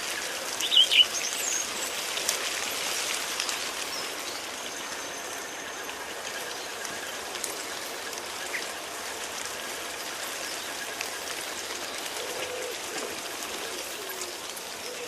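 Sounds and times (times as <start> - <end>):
steady rain on hedgerow: 0.0 - 15.0.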